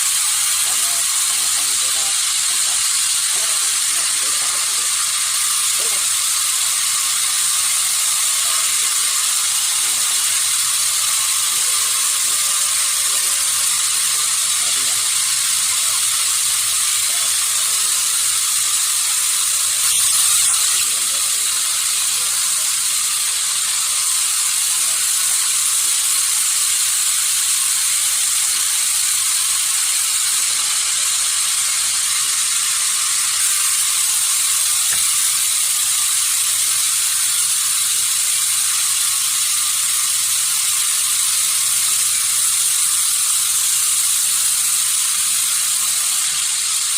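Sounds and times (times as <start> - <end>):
sawmill machinery hissing: 0.0 - 46.9.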